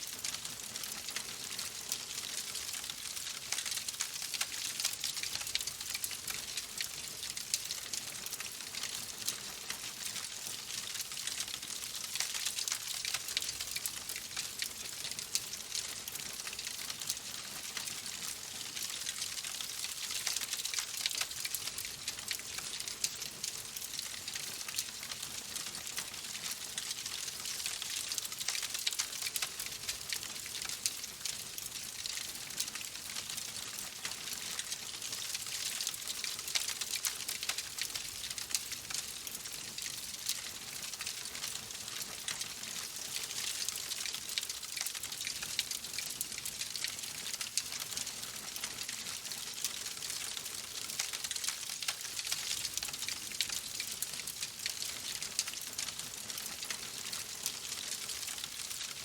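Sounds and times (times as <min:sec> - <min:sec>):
fire crackling in a fireplace: 0:00.0 - 0:59.0.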